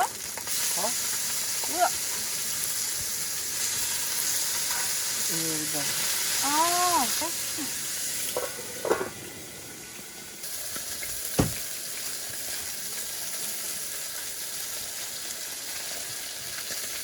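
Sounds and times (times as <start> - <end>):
food sizzling in frying: 0.0 - 17.0.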